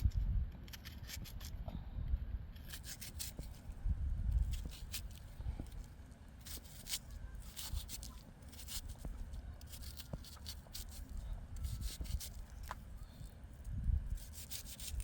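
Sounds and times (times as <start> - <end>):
scraping and rubbing strokes: 0.6 - 1.6, 2.6 - 12.8, 14.1 - 15.0.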